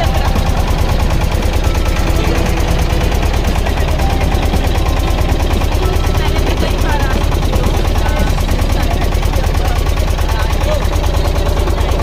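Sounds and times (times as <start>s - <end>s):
motorboat engine chugging: 0.0s - 12.0s.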